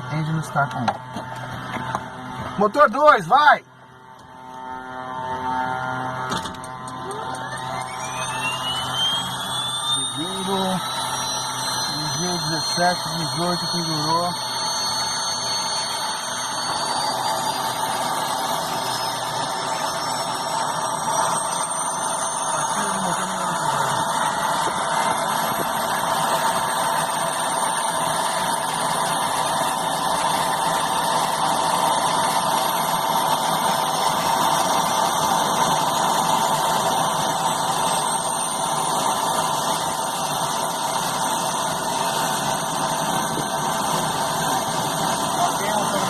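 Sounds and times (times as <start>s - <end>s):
turboprop engine whistling: 0.0s - 46.0s.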